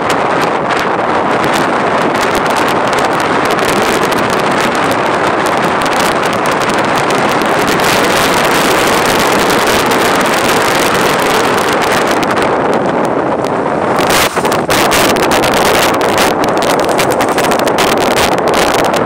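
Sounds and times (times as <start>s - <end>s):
vehicle running and road noise: 0.0s - 19.0s
wind buffeting microphone: 0.0s - 19.0s.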